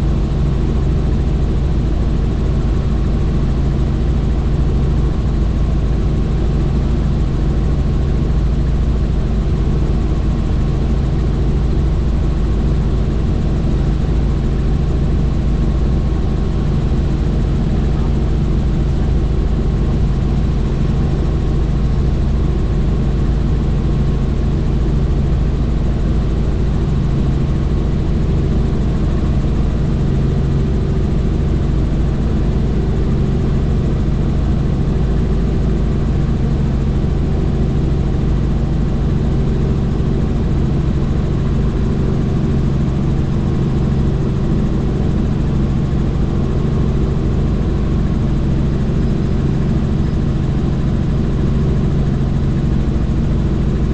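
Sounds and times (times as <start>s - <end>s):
helicopter rotor droning: 0.0s - 53.9s.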